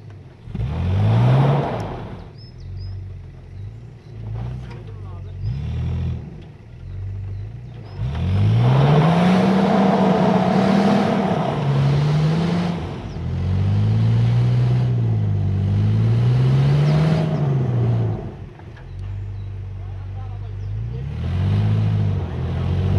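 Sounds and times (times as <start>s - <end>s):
off-road vehicle engine revving: 0.0s - 22.9s.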